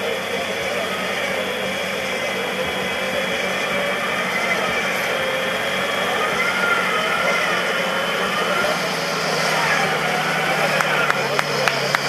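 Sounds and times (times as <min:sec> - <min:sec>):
vehicle engine running: 0:00.0 - 0:12.0
winch whining under load: 0:00.0 - 0:12.0.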